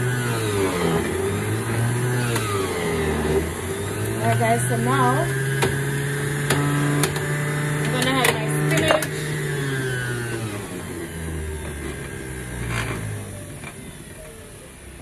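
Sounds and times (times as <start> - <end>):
juicer clattering: 0.0 - 14.5
juicer motor humming: 0.0 - 15.0.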